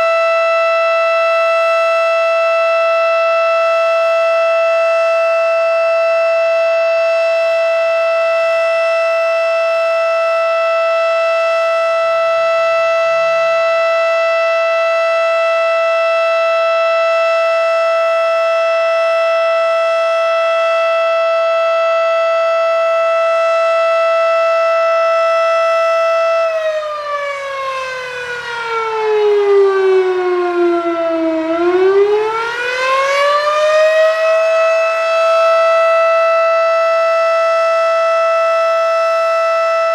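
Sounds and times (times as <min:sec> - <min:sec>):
warning siren: 0:00.0 - 0:39.9.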